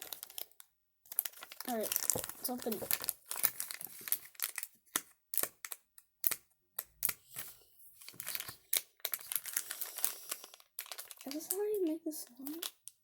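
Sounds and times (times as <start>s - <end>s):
plastic packaging crinkling: 0.0s - 6.4s, 7.0s - 13.0s.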